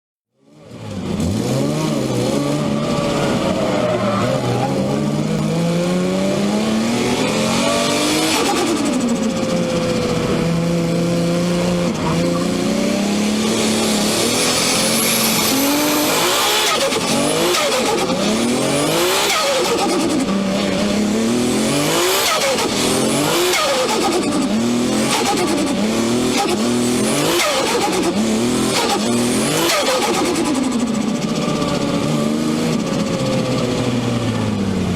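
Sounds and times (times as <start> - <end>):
car engine revving: 0.4 - 34.9.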